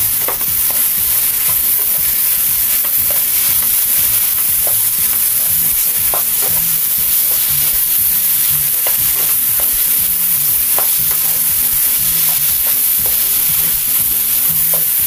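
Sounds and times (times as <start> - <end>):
food sizzling in a frying pan: 0.0 - 15.0
spatula scraping a pan: 0.0 - 15.0.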